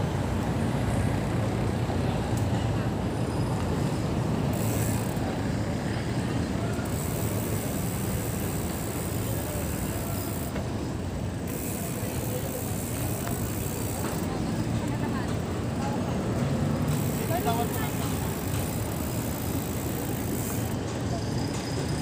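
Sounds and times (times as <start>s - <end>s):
road traffic: 0.0s - 22.0s
faint voices: 0.4s - 22.0s.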